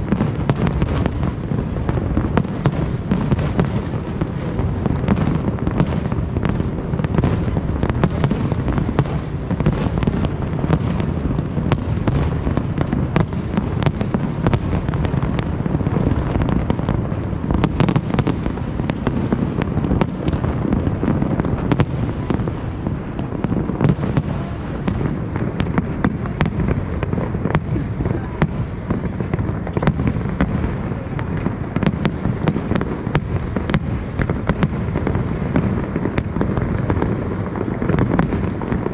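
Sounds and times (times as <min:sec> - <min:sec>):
fireworks cracks and bangs: 0:00.0 - 0:38.9.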